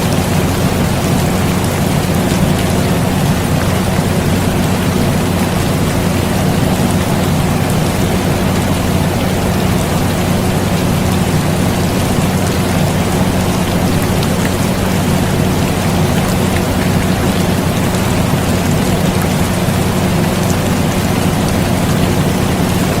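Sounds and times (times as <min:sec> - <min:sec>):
air conditioner hum: 0:00.0 - 0:23.0
steady rain: 0:00.0 - 0:23.0.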